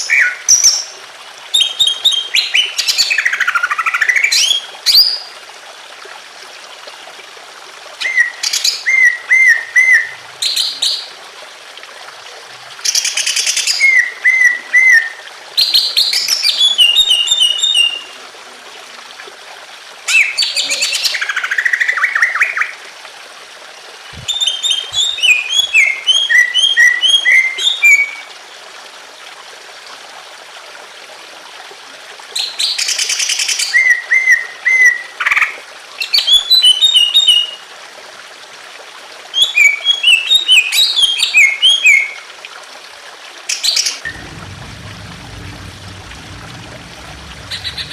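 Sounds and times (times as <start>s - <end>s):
trickle of running water: 0.0s - 47.9s.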